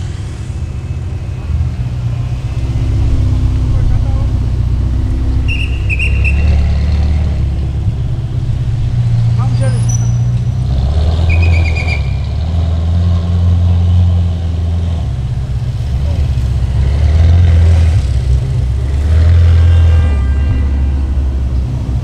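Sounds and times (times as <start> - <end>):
car engines idling: 0.0 - 19.1.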